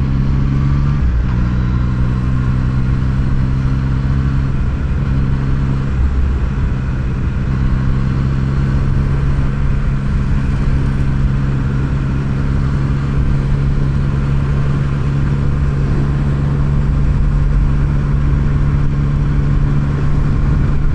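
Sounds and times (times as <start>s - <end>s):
motorcycle engine running steadily: 0.0s - 20.9s.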